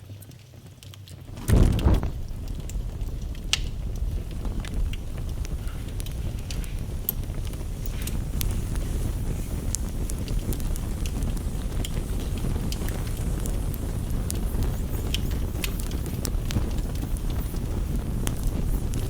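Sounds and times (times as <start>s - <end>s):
campfire crackling and popping: 1.2s - 19.0s
low rumble: 1.3s - 19.0s
rain tapping on a window: 1.3s - 19.0s.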